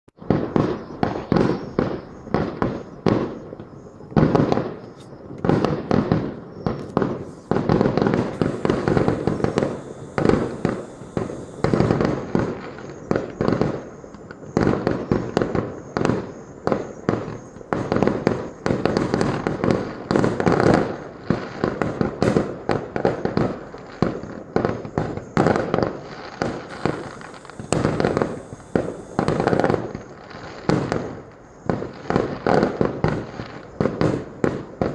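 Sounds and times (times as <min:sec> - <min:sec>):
fireworks bursts and crackling: 0:00.2 - 0:34.9.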